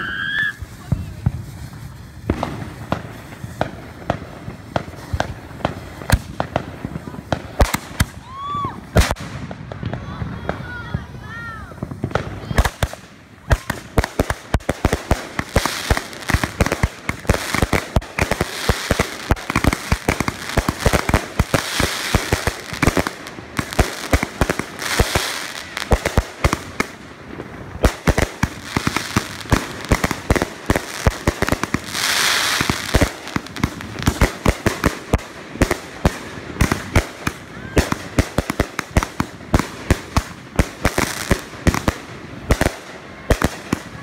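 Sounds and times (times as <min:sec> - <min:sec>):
fireworks bangs: 0:00.0 - 0:44.0
fireworks crackle and hiss: 0:00.0 - 0:44.0.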